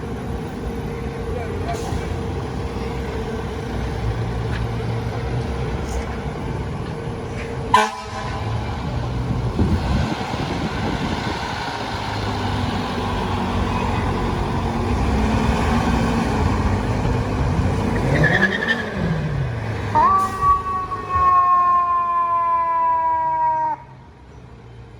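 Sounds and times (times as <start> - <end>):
fire engine rumbling: 0.0 - 24.9
street traffic: 0.0 - 24.9.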